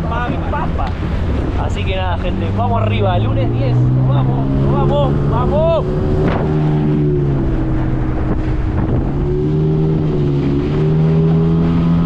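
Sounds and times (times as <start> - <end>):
outboard motor running: 0.0 - 12.0
wind rushing over microphone: 0.0 - 12.0.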